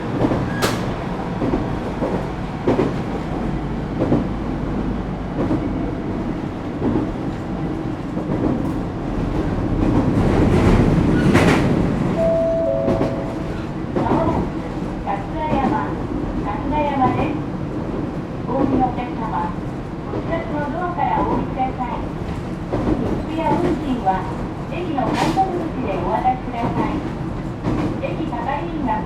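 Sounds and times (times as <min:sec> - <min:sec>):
electric train rolling rumble: 0:00.0 - 0:29.0.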